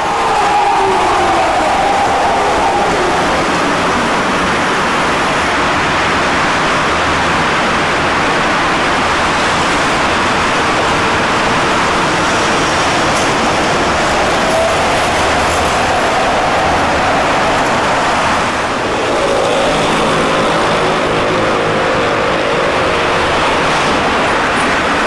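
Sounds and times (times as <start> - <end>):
tram wheels rushing on track: 0.0 - 25.0.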